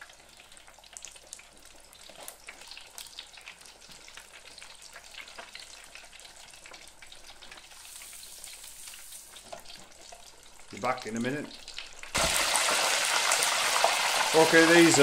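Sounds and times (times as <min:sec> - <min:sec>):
burgers sizzling in hot oil: 0:00.0 - 0:15.0.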